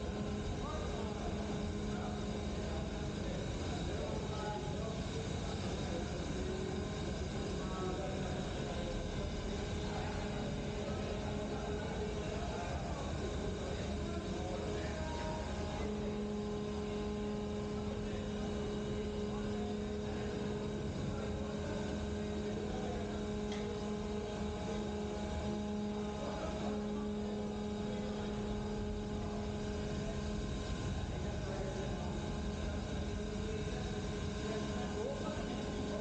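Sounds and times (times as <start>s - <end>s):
machinery drone: 0.0s - 36.0s
steady hum tones: 0.0s - 36.0s.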